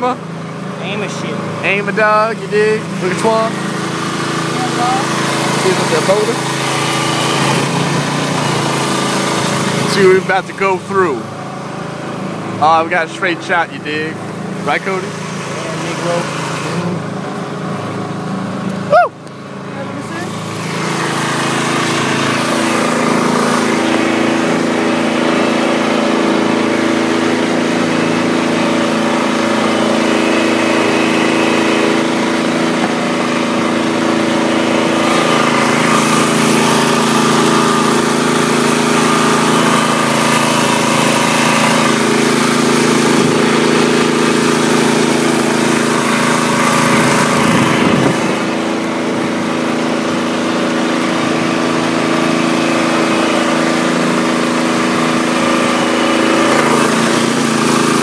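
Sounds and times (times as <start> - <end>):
boat engine running hard: 0.0 - 58.0.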